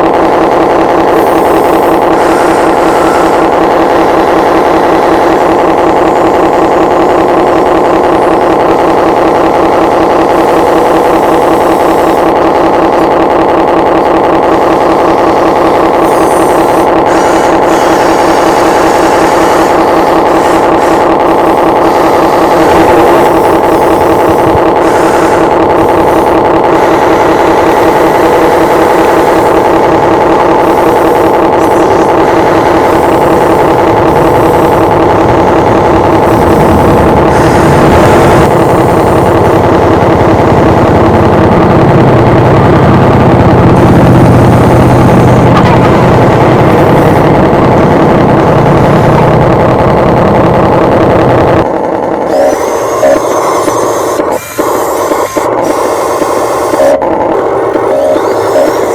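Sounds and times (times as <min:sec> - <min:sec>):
hydraulic pump whine: 0:00.0 - 0:58.9.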